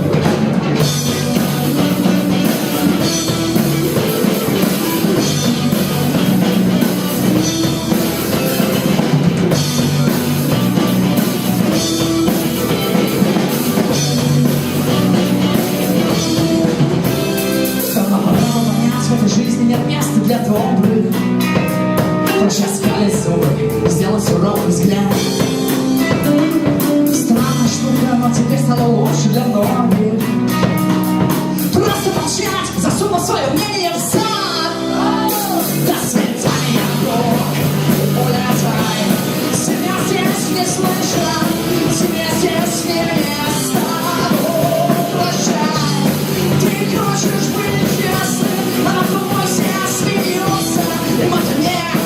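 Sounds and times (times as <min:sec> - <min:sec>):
drum kit: 0:00.0 - 0:52.0
live rock band playing: 0:00.0 - 0:52.0.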